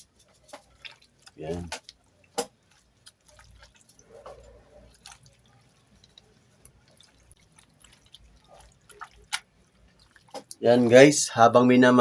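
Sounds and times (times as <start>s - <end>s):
wet clicks of chicken handled: 0.2s - 10.6s.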